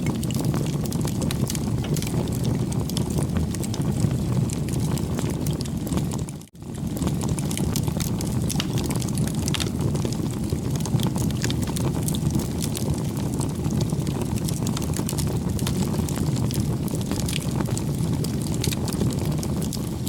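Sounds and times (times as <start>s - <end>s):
burning wood crackling and popping: 0.0s - 20.0s
rush of bonfire flames: 0.0s - 20.0s.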